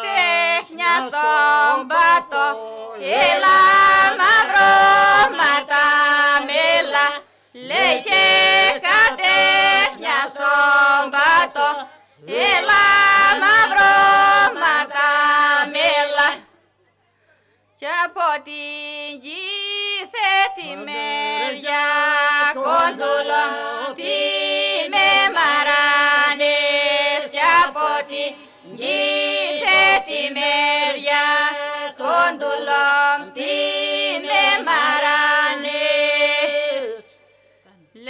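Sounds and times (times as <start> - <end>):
group singing polyphony: 0.0 - 16.7, 17.8 - 37.8.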